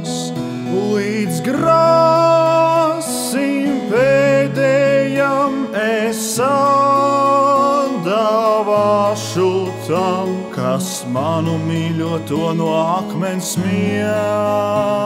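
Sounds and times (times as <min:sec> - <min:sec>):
low instrumental accompaniment: 0:00.0 - 0:15.0
person singing long notes: 0:00.0 - 0:15.0.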